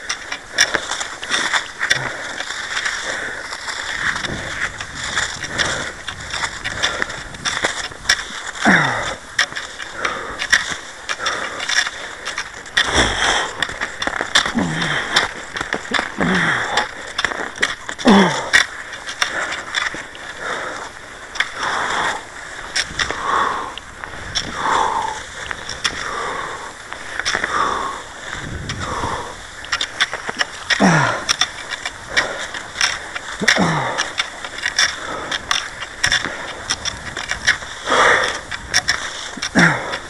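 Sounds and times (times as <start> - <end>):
ski pole clicks on snow: 0.0 - 40.0
skis swishing in snow track: 0.0 - 40.0.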